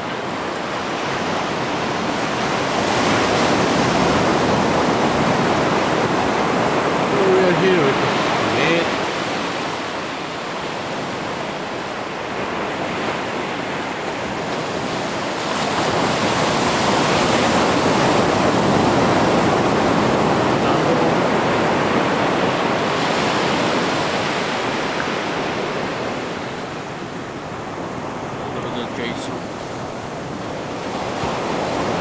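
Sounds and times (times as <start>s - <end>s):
ocean surf washing on a beach: 0.0s - 32.0s.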